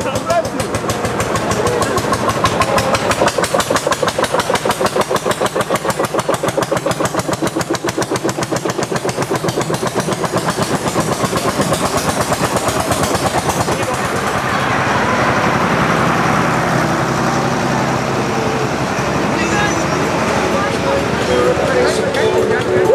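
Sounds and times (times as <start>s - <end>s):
tractor engine chugging: 0.0s - 22.9s.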